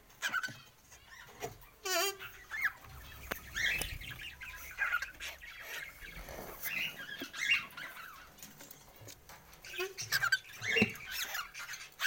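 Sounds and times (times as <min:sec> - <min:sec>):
poultry clucking: 0:00.1 - 0:12.0.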